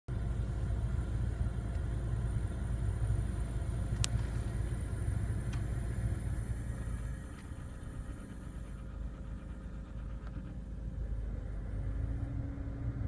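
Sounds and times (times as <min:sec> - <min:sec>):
car rumble: 0:00.1 - 0:13.0.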